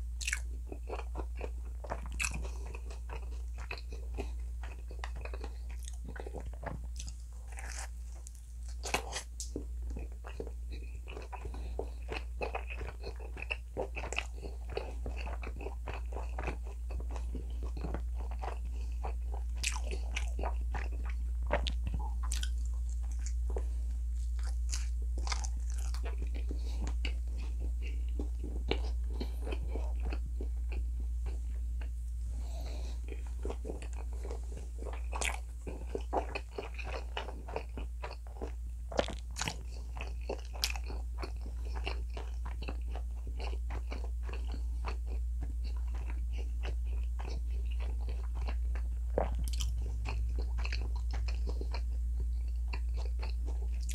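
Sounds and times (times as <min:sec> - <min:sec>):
person chewing food: 0:00.0 - 0:53.9
steady low hum: 0:00.0 - 0:53.9.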